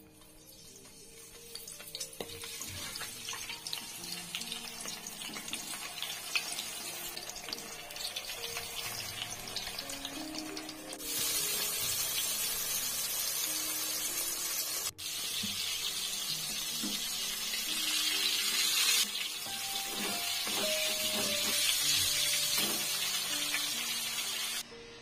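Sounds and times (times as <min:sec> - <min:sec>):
fish sizzling in hot oil: 0:00.0 - 0:24.6
soft background music: 0:00.0 - 0:25.0.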